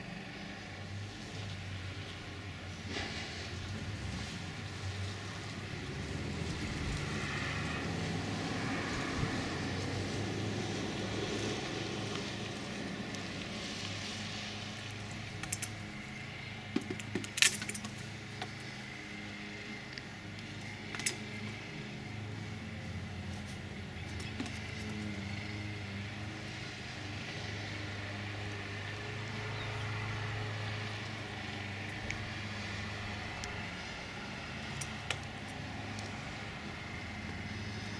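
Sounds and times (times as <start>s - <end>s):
low mechanical hum: 0.0s - 37.9s.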